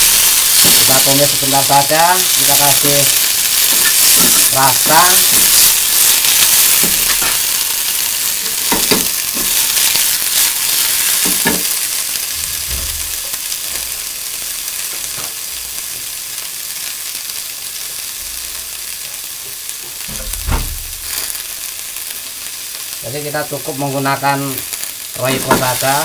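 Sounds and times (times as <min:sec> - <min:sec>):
vegetables sizzling in a frying pan: 0:00.0 - 0:26.0.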